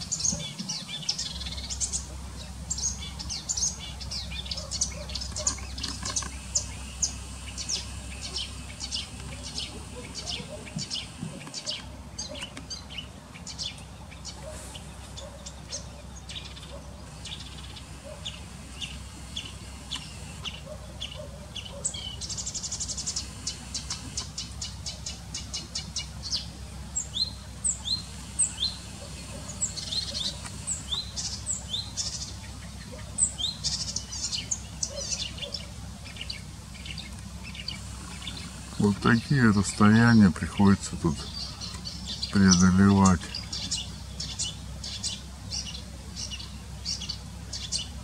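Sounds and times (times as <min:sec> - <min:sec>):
warbler singing: 0:00.0 - 0:48.0.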